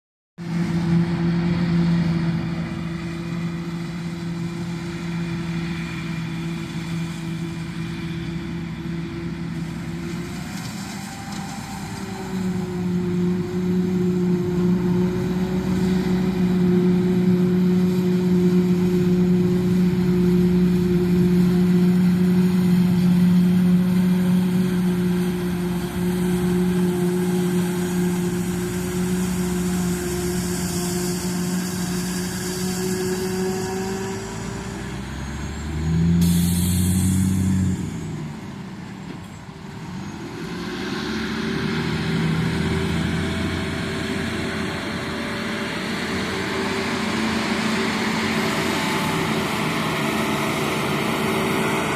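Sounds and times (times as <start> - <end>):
heavy machinery engine humming: 0.4 - 51.9.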